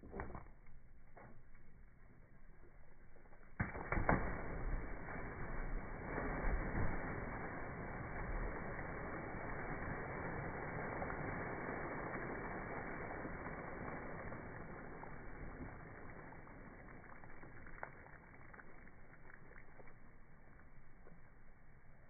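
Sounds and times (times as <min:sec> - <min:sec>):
water splashing: 0:02.6 - 0:20.8.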